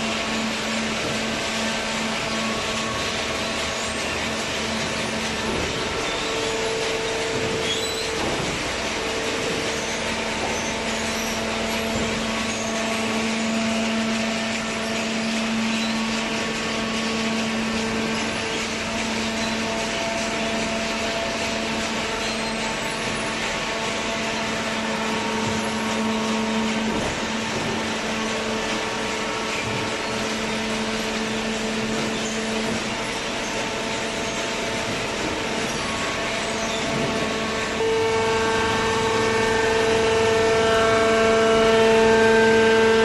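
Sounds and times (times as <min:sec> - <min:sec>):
baler motor and pump whine: 0:00.0 - 0:43.0.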